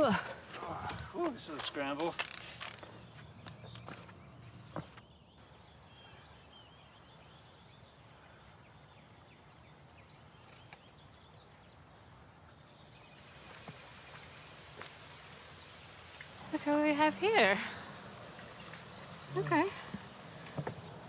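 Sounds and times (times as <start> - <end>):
soft bird chirps: 2.7 - 21.0.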